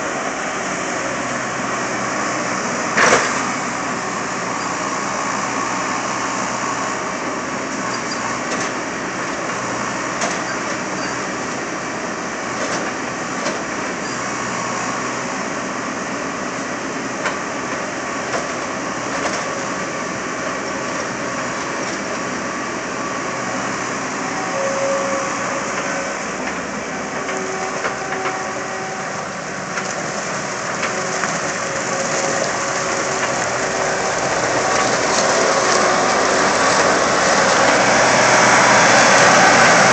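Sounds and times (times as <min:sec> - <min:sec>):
skid steer loader running: 0:00.0 - 0:39.9.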